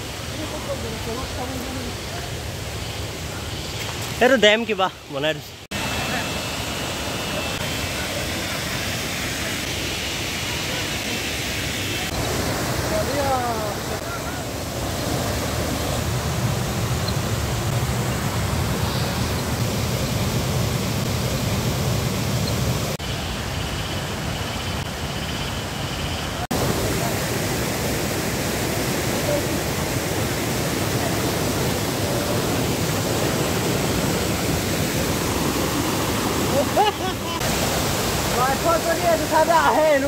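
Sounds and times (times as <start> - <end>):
stream water over rocks: 0.0 - 25.2, 26.2 - 40.0.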